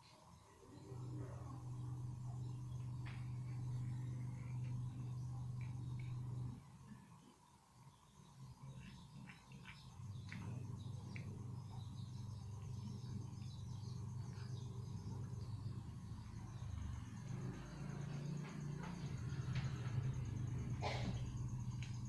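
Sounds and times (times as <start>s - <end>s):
steady low hum: 0.0s - 22.0s
insects chirping: 0.1s - 22.0s.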